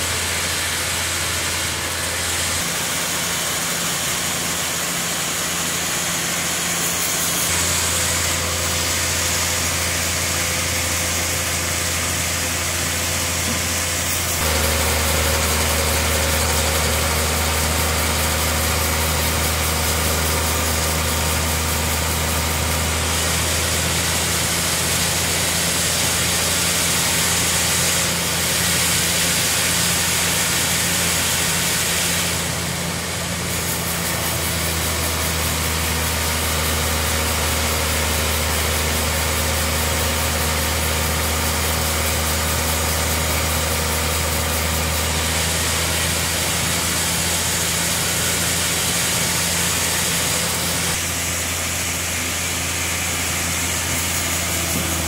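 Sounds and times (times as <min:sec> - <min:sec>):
band saw cutting through log: 0:00.0 - 0:55.0
sawmill motor hum: 0:00.0 - 0:55.0.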